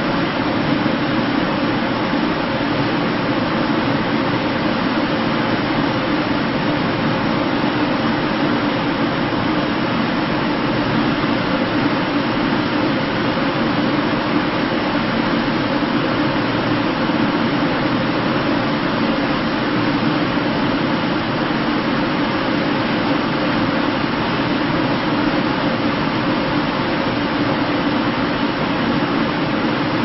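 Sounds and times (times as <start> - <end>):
ventilation system blowing air: 0.0 - 30.0.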